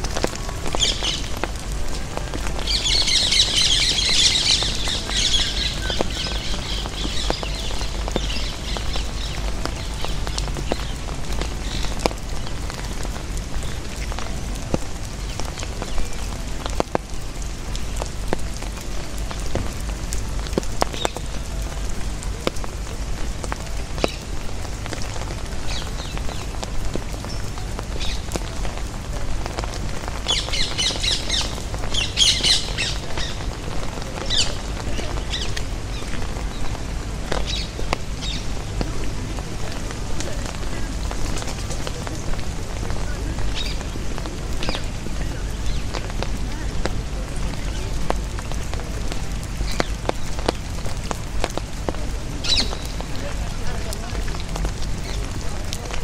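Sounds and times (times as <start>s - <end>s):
rain drops pattering: 0.0s - 56.0s
birds chirping: 0.2s - 39.0s, 40.4s - 55.6s.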